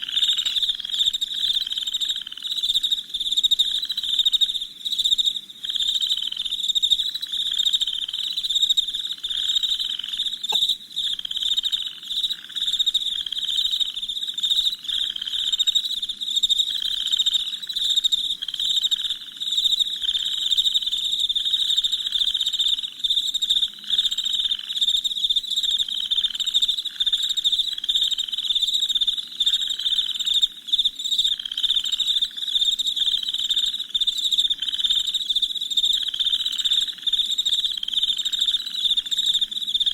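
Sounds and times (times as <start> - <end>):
crickets chirping in high trill: 0.0 - 39.9
lower pulsing insect call: 0.0 - 39.9.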